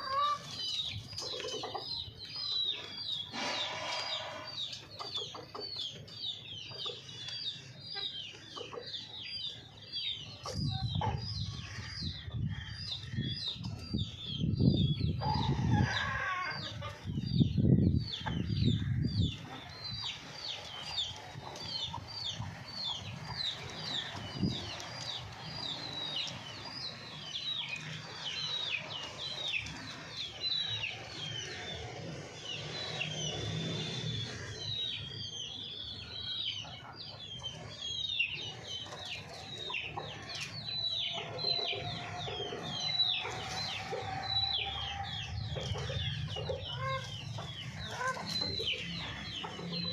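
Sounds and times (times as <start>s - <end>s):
chickens chirping and clucking: 0.0s - 49.9s.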